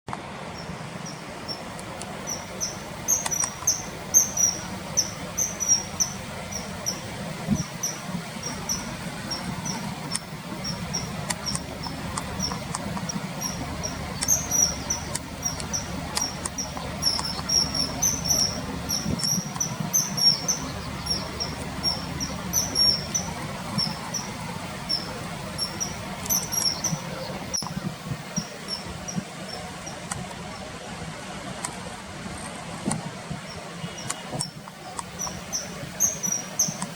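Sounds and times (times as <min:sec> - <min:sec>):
flowing river water: 0:00.1 - 0:36.9
kingfisher high piping calls: 0:00.6 - 0:30.0, 0:33.8 - 0:36.9.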